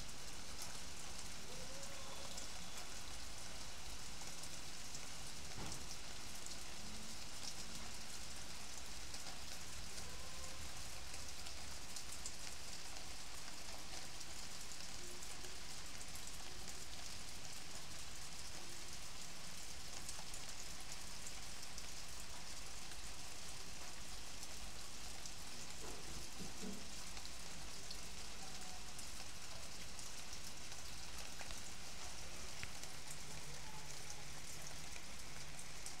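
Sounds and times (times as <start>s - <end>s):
rain falling on leaves: 0.0s - 36.0s
close raindrop ticks: 2.2s - 36.0s.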